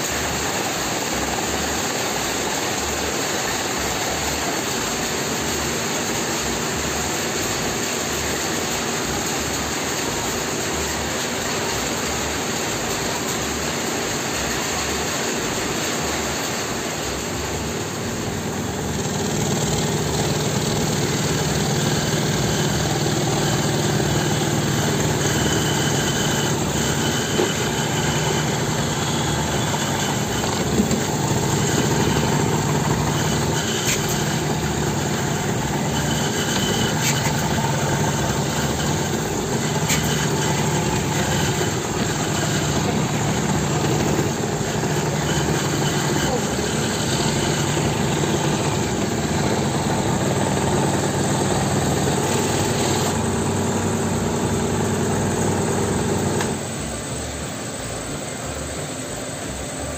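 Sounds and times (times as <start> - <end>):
scroll saw cutting plywood: 0.0 - 57.6
motor humming: 0.0 - 59.9.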